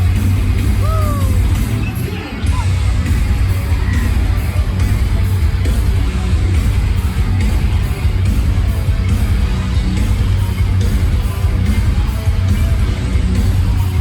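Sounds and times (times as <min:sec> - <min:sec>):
electric guitar: 0:00.0 - 0:14.0
metal band playing live: 0:00.0 - 0:14.0.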